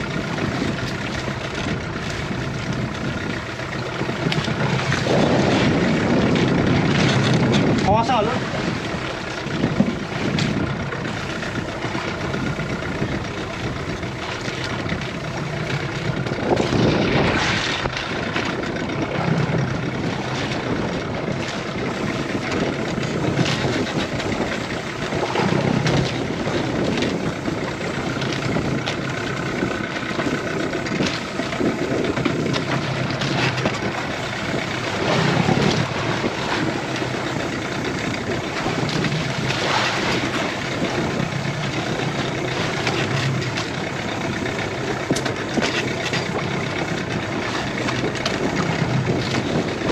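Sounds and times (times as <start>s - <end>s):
boat engine idling: 0.0s - 49.9s.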